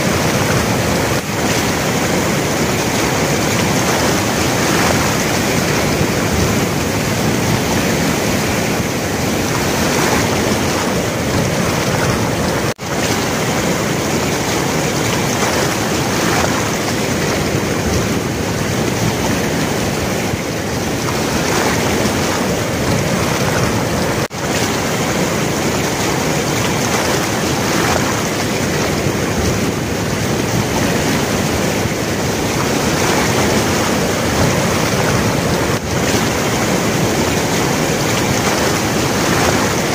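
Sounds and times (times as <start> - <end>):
floodwater rushing through gates: 0.0 - 39.9.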